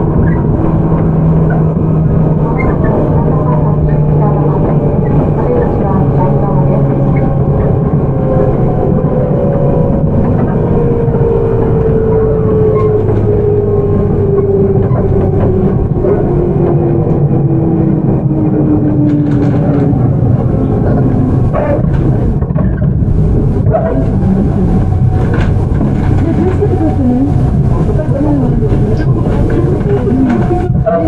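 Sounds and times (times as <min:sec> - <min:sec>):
wheels rumbling on rails: 0:00.0 - 0:31.0.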